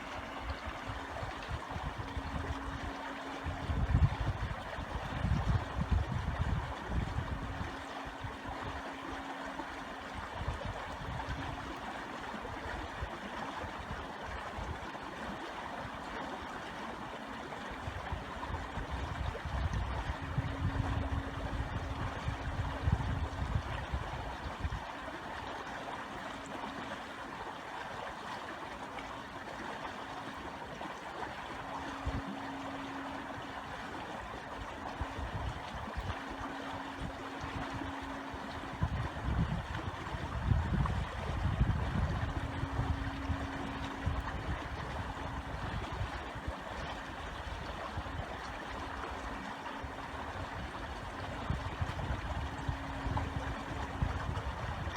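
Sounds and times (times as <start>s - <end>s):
stream flowing over stones: 0.0s - 54.9s.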